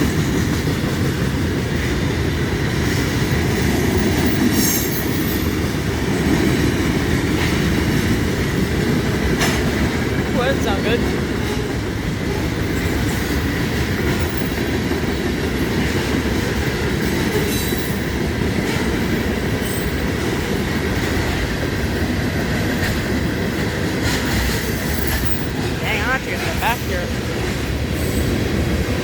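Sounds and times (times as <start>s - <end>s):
railroad car clanks: 0.0s - 29.0s
train wheels rumbling on rails: 0.0s - 29.0s.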